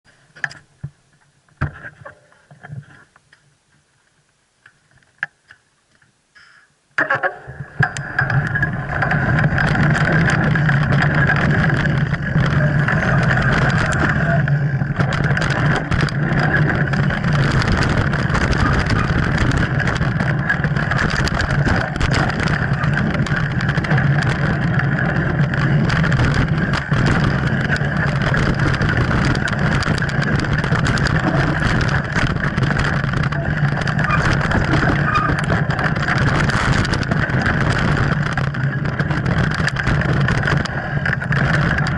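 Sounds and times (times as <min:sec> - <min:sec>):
bike rattling and knocking: 0:07.0 - 0:41.9
wind rushing on microphone: 0:07.6 - 0:41.9.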